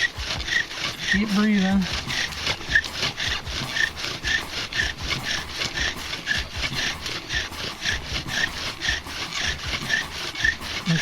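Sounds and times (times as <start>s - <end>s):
wooden spindle rasping and squeaking: 0.0s - 11.0s.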